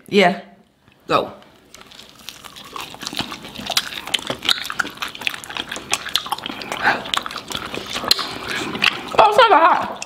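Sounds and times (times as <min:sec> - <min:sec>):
wet chewing and lip-smacking: 0:01.5 - 0:10.0.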